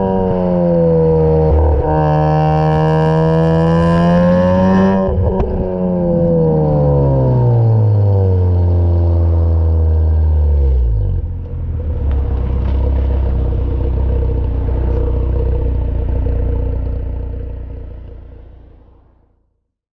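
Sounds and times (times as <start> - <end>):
rotary engine revving down and idling: 0.0 - 19.3.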